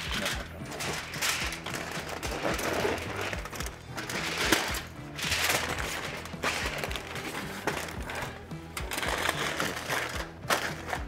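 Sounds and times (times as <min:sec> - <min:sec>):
aluminium foil crinkling: 0:00.0 - 0:11.0
background music: 0:00.0 - 0:11.0.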